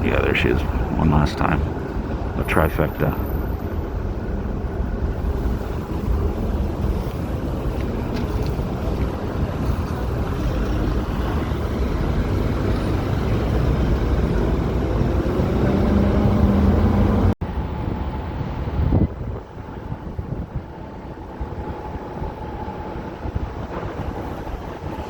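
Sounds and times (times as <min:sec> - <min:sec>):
street traffic: 0:00.0 - 0:25.0
vehicle engine hum: 0:00.0 - 0:25.0
wind buffeting microphone: 0:03.2 - 0:25.0.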